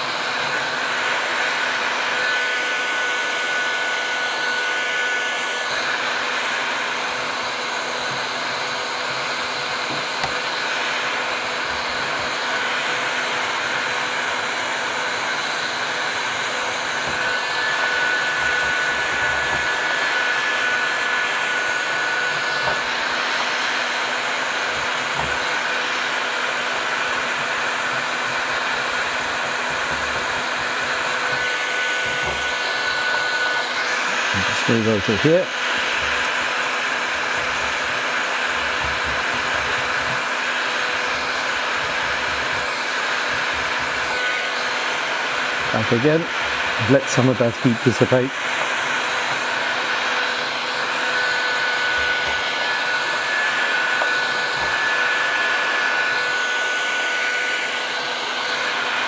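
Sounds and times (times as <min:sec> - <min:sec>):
heat gun blowing air: 0:00.0 - 0:59.0.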